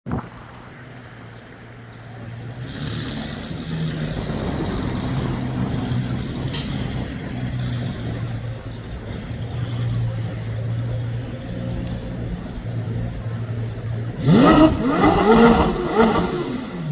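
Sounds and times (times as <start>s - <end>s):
vehicle engine running: 0.1s - 16.9s.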